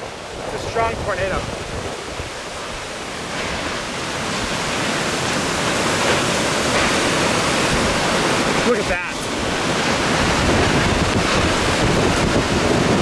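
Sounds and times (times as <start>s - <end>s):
strong storm wind rushing: 0.0s - 13.0s.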